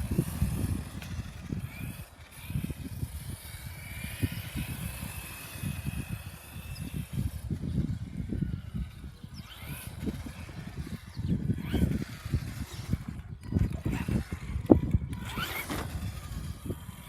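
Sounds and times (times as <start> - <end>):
toy car motor whine: 0.0 - 17.0
wind buffeting microphone: 0.0 - 17.0.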